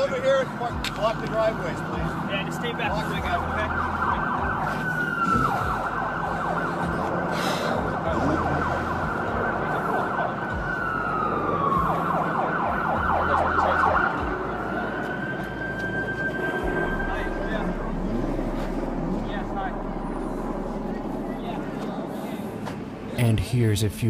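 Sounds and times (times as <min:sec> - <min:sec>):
emergency vehicle siren wailing: 0:00.0 - 0:23.1.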